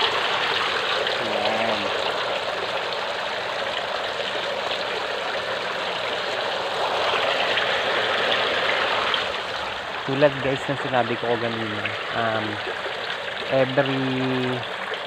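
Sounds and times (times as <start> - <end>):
water splashing into tank: 0.0 - 15.0.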